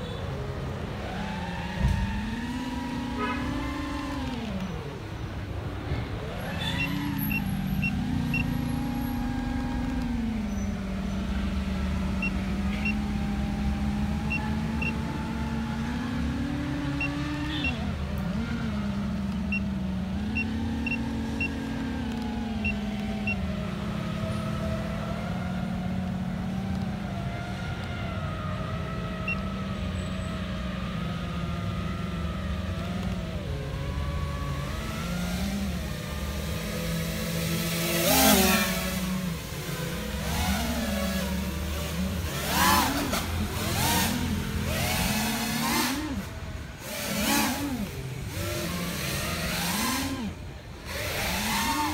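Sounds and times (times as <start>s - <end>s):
drone motors buzzing: 0.0s - 51.9s.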